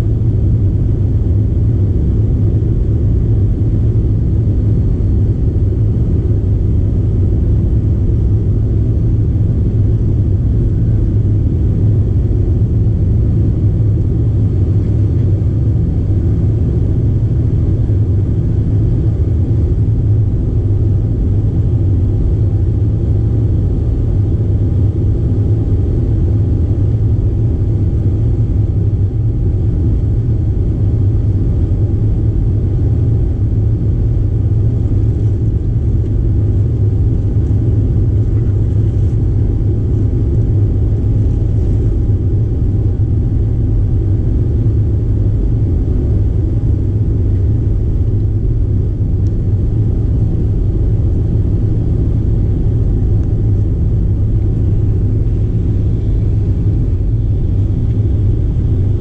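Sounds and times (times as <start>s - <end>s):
faint steady whine: 0.0s - 59.0s
jet engines rumbling in cabin: 0.0s - 59.0s.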